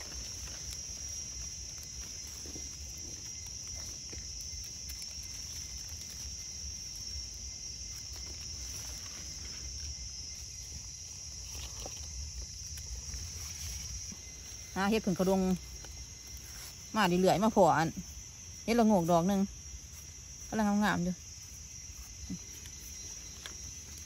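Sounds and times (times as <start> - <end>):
hands rustling dry leaves: 0.0 - 24.0
insects droning: 0.0 - 24.0.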